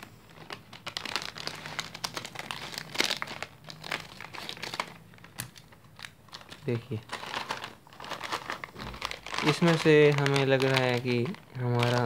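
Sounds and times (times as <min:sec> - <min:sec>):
plastic film crinkling: 0:00.0 - 0:12.0
scissors cutting plastic packet: 0:00.5 - 0:12.0.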